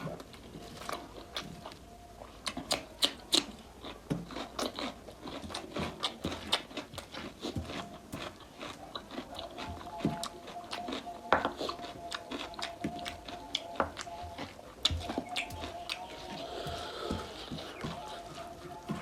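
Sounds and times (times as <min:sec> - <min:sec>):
person chewing meat: 0:00.0 - 0:19.0.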